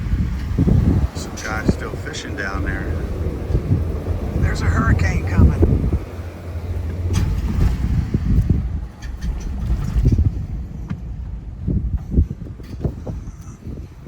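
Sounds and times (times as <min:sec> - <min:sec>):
vehicle driving rumble: 0:00.0 - 0:14.0
wind buffeting microphone: 0:00.0 - 0:14.0.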